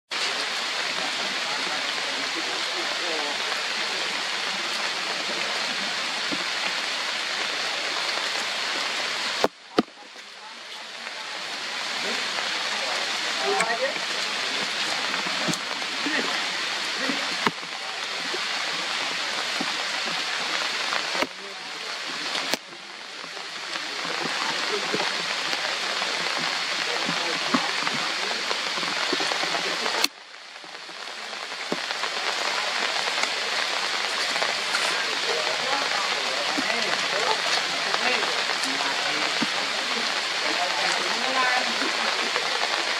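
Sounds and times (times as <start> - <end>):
heavy rain on foliage: 0.1 - 42.9.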